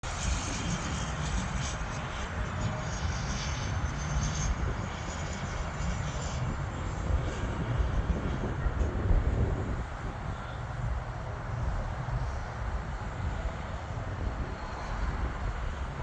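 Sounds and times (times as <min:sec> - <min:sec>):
faint turbine whine: 0:00.0 - 0:16.0
jet engines rushing: 0:00.0 - 0:16.0.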